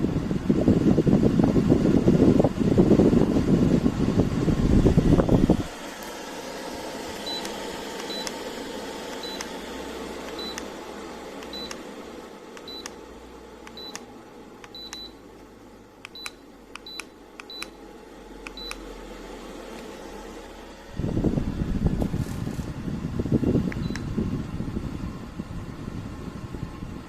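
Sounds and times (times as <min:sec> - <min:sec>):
fan blowing: 0:00.0 - 0:27.0.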